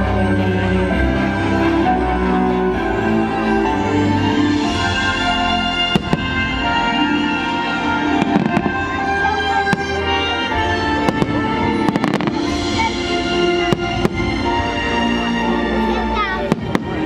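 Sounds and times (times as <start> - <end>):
loud music playing: 0.0 - 17.0.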